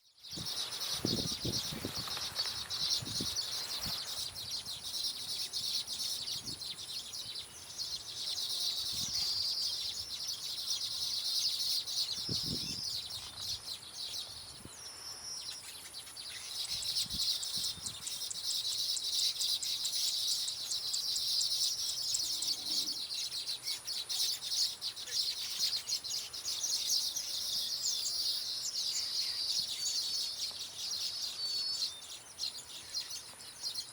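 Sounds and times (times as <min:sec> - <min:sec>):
birds twittering: 0:00.0 - 0:33.9.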